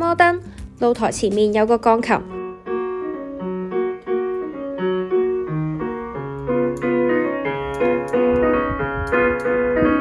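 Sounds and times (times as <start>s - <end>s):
solo piano music: 0.0s - 10.0s.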